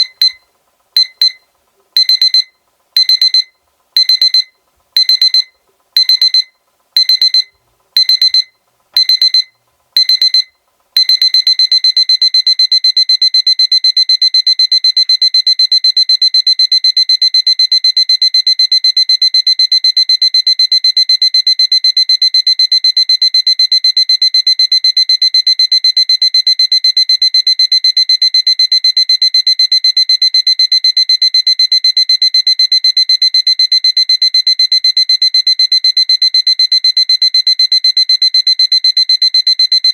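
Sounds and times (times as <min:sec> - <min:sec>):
alarm clock beeping: 0:00.0 - 0:00.4, 0:01.0 - 0:01.4, 0:02.0 - 0:39.9.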